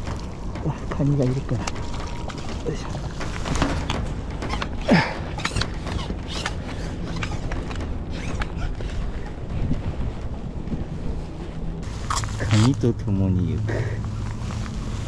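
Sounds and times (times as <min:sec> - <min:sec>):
gear handling creaks and clicks: 0:00.0 - 0:10.8, 0:11.8 - 0:15.0.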